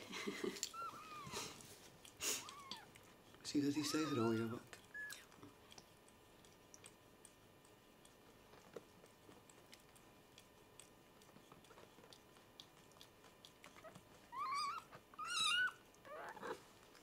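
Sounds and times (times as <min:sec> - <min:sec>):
cat licking kittens: 0:00.0 - 0:17.0.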